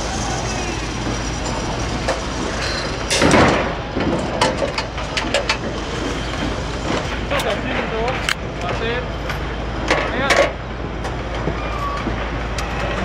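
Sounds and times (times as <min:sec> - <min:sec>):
machinery rumbling: 0:00.0 - 0:13.0.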